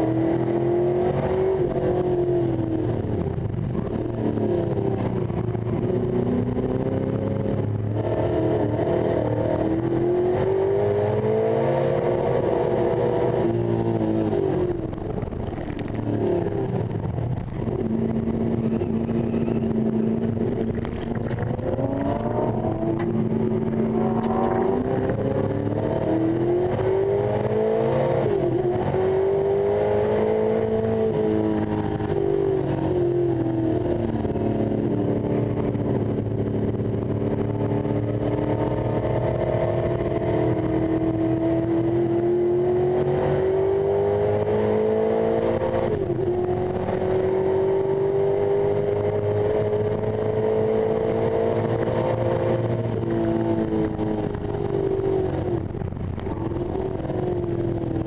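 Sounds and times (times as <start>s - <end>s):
race car engine revving: 0.0s - 17.0s, 17.6s - 58.0s.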